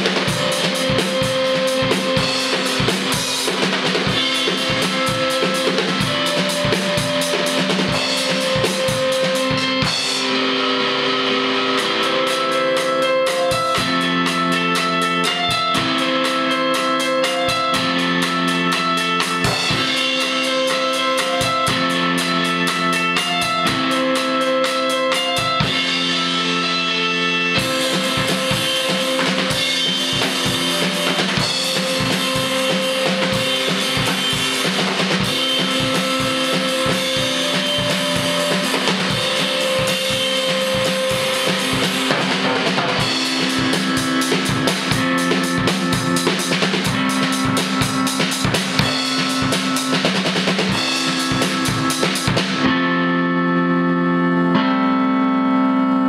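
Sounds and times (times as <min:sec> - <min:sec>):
drum kit beat: 0:00.0 - 0:52.9
electric guitar chords: 0:00.0 - 0:56.0.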